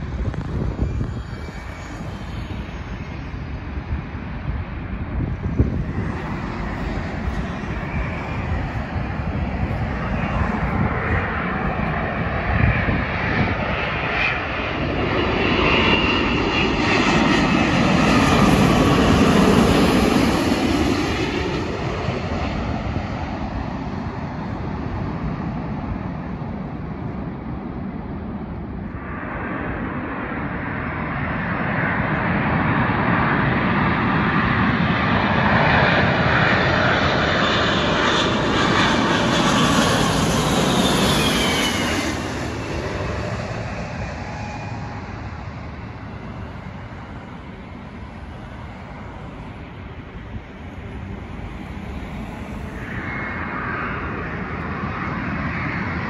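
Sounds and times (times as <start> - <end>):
jet airliners passing low: 0.0 - 56.0.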